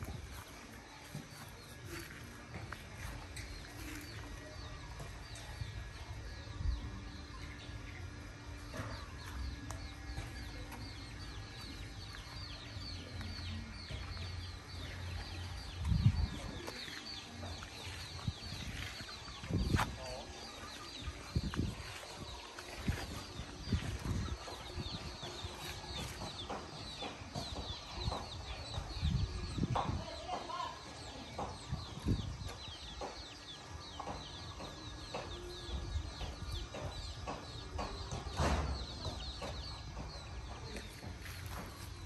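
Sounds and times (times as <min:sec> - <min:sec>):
chickens clucking: 0:07.2 - 0:42.0.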